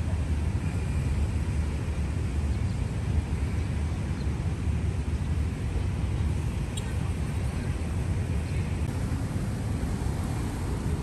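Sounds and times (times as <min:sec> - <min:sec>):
low rumble of city ambience: 0:00.0 - 0:11.0.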